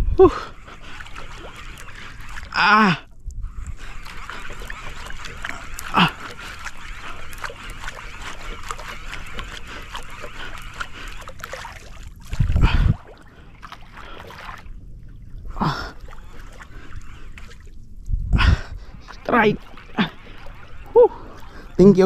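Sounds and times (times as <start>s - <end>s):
water lapping against boat: 0.0s - 22.0s.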